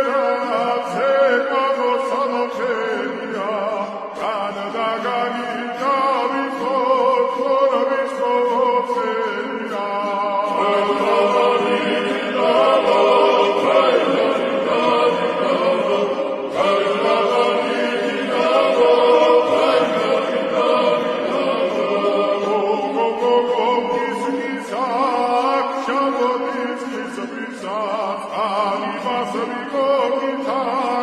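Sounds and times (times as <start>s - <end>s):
choir chanting and singing: 0.0s - 31.0s.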